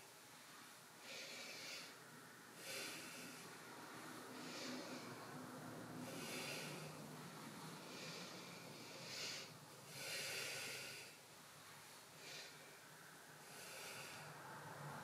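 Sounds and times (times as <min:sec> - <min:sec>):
woman breathing slowly: 0:00.0 - 0:15.0.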